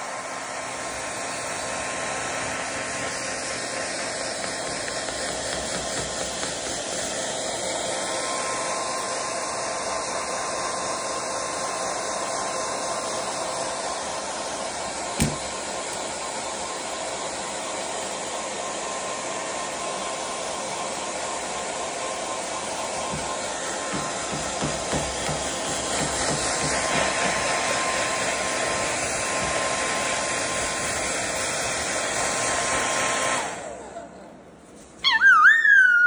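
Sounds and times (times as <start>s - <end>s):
hair dryer running: 0.0s - 36.0s.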